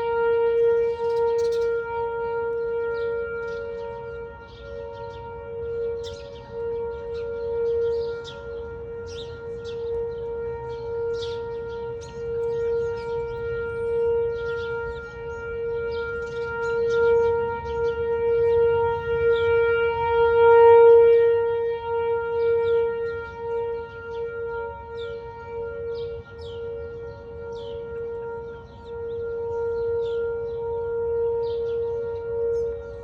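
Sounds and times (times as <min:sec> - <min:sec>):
outdoor warning siren: 0:00.0 - 0:33.0.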